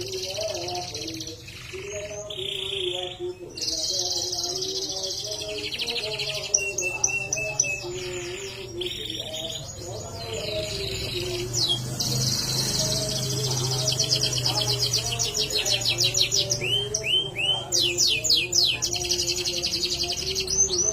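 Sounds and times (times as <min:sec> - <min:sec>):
canary trilling: 0:00.0 - 0:20.9.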